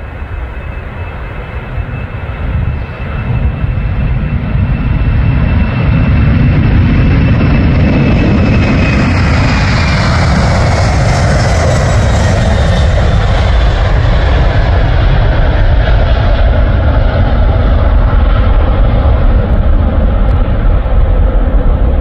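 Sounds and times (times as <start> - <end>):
high jet whine: 0.0 - 22.0
jet engines deep rumble: 0.0 - 22.0.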